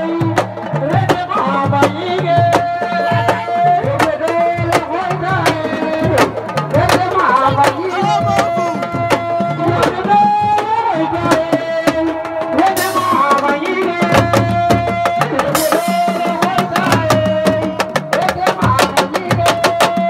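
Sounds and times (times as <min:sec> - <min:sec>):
fast hand drumming: 0:00.0 - 0:20.0.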